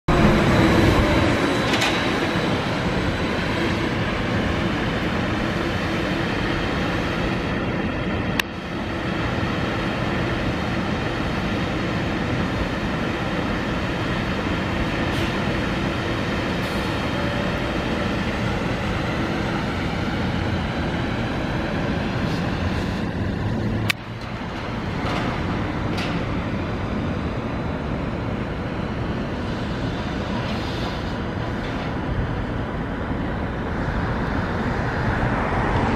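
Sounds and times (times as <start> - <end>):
street noise: 0.0 - 35.9
trolleybus running rumble: 0.1 - 35.9.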